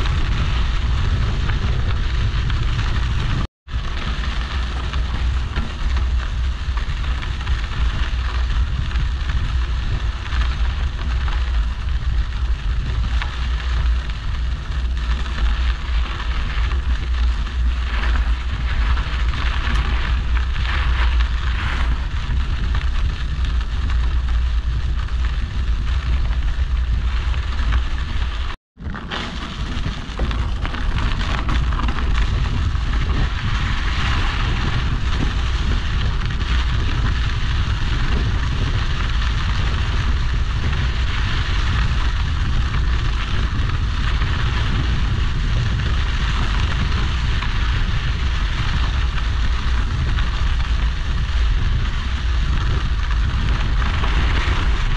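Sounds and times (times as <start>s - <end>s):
tyres crunching over gravel: 0.0s - 54.9s
wind rumble on microphone: 0.0s - 54.9s.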